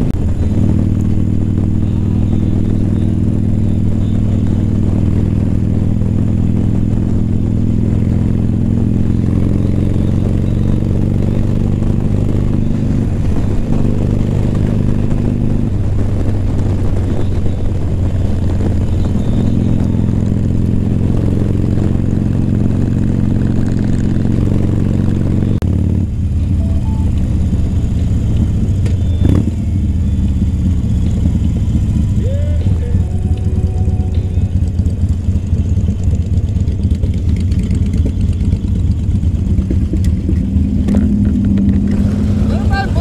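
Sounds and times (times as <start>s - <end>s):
motorcycle engine cruising: 0.0s - 43.0s.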